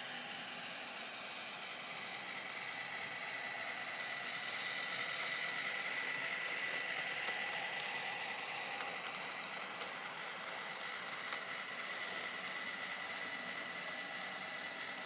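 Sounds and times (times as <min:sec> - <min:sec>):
model train wheels rolling: 0:00.0 - 0:15.0
model train whine: 0:00.0 - 0:15.0.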